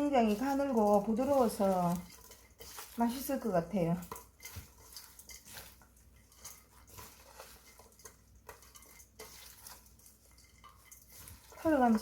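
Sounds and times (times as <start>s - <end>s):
vegetables tossed in a bowl: 0.0s - 12.0s.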